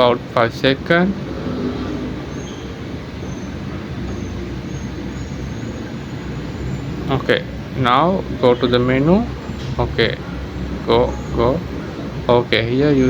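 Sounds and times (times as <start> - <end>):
low hum and rumble: 0.0 - 13.0.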